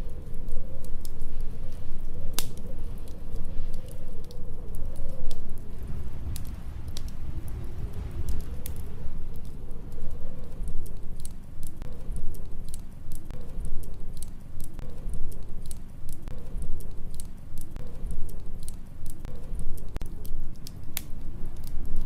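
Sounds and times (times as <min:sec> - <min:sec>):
storm wind rumbling: 0:00.0 - 0:22.0
wood fire crackling: 0:00.0 - 0:22.0.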